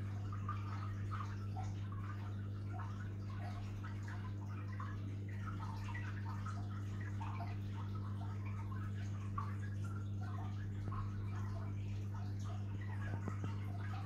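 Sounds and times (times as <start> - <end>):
aquarium water trickling and bubbling: 0.0 - 14.0.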